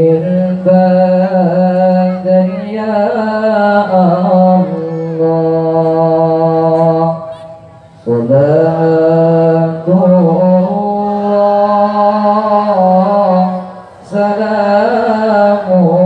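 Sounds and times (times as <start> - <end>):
man reciting melodically over loudspeakers: 0.0 - 16.0.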